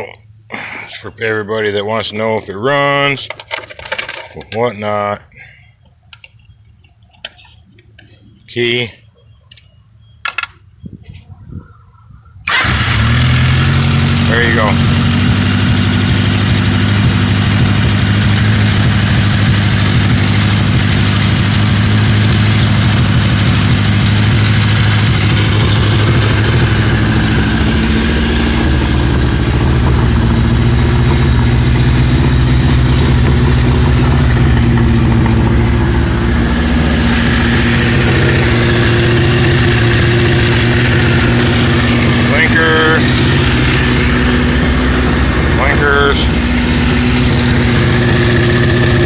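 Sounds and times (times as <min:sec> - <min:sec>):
vehicle engine idling: 0:04.1 - 0:49.0.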